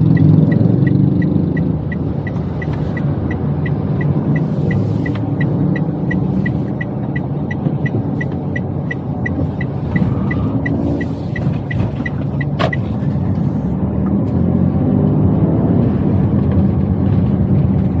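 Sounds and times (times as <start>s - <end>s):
car engine and road noise: 0.0s - 18.0s
turn signal ticking: 0.0s - 18.0s.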